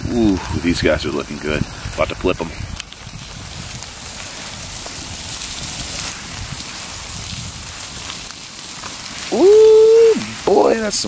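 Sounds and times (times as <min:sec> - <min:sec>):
campfire crackling: 0:00.0 - 0:11.0
steaks sizzling on coals: 0:00.0 - 0:11.0.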